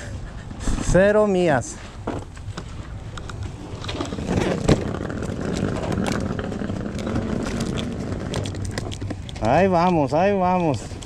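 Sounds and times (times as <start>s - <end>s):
vehicle engine humming: 1.8s - 11.0s.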